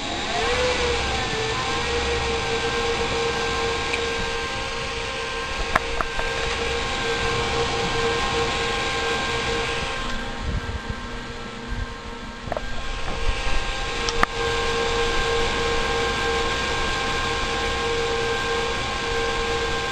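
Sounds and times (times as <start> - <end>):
server cooling fans whining: 0.0 - 19.9.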